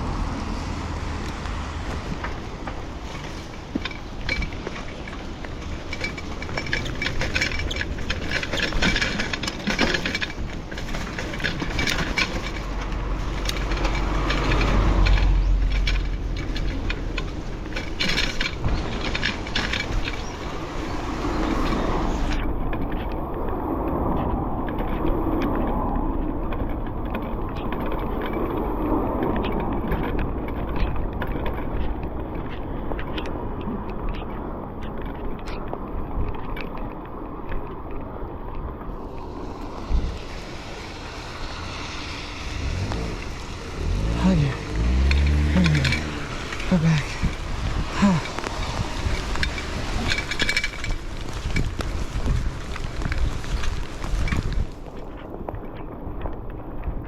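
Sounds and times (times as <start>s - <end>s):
traffic noise: 0.0s - 57.0s
wind rumbling on microphone: 0.0s - 57.0s
clicks and rattles: 1.2s - 57.0s.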